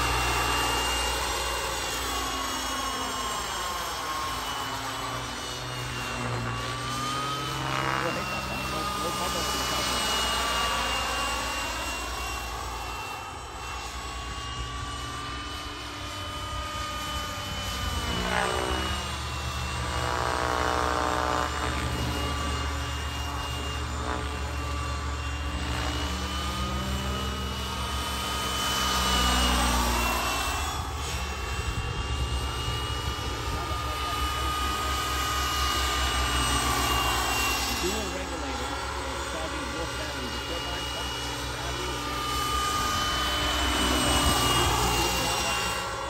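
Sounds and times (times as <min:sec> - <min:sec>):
helicopter rotor noise: 0:00.0 - 0:46.0
high-pitched turbine whine: 0:00.0 - 0:46.0.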